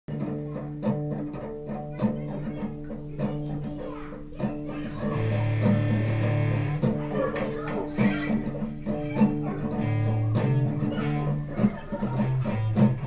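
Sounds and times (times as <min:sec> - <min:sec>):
guitar music: 0:00.1 - 0:13.0.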